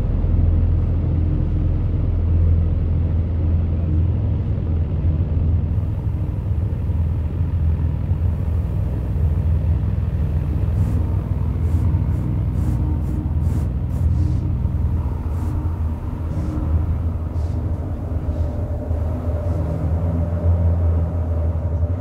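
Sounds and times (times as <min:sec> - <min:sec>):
fire organ rumbling drone: 0:00.0 - 0:22.0.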